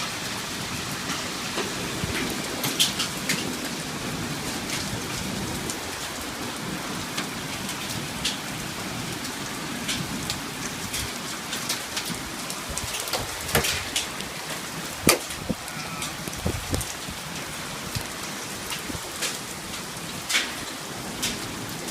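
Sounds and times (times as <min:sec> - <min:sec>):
heavy rain downpour: 0:00.0 - 0:21.9.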